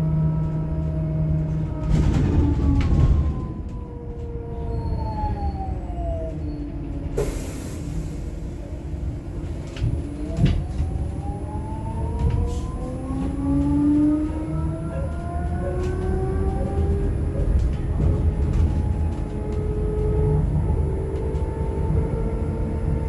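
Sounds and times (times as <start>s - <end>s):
electric bus motor whine: 0.0s - 23.0s.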